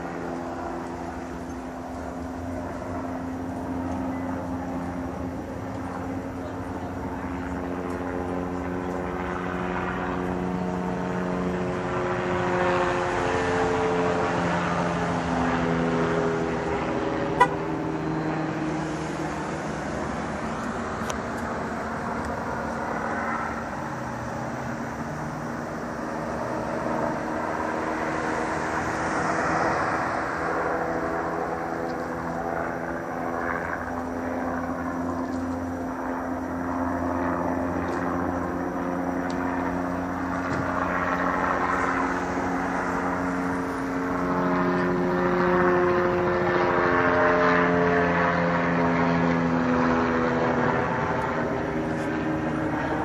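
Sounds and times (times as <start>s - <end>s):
helicopter rotor and engine drone: 0.0s - 53.0s.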